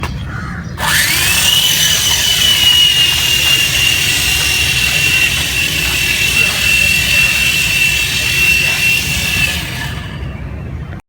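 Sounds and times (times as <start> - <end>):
small electric motor whine: 0.8 - 10.7.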